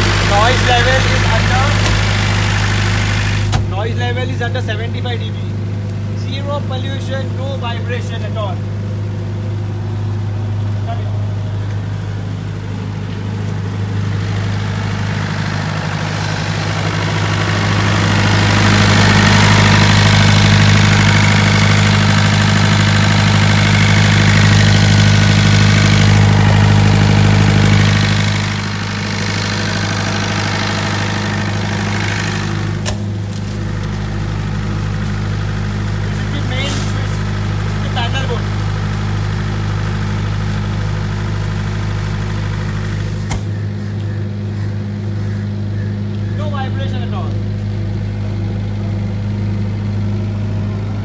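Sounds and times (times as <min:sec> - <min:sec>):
diesel generator humming: 0:00.0 - 0:51.0.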